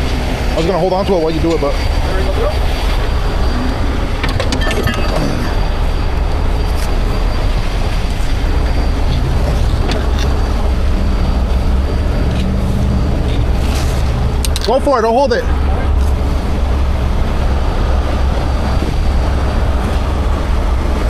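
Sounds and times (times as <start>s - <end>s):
diesel engine running: 0.0s - 21.0s
road traffic rumble: 0.0s - 21.0s.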